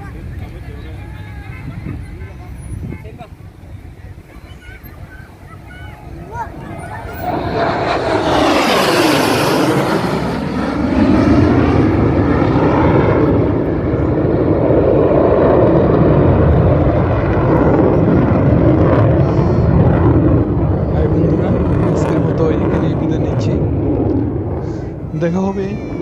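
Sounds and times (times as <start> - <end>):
jet aircraft roar: 0.0 - 26.0.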